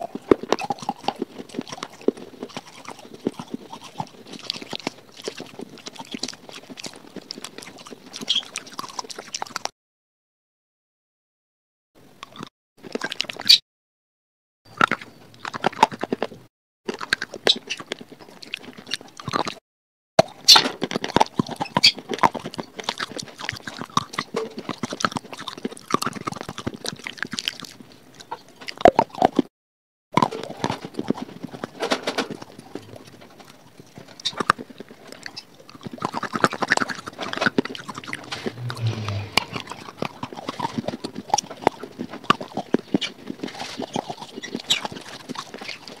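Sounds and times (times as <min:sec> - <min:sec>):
crunching and chewing clay: 0:00.0 - 0:09.7, 0:12.2 - 0:13.6, 0:14.7 - 0:19.6, 0:20.2 - 0:29.5, 0:30.2 - 0:39.2, 0:39.9 - 0:46.0.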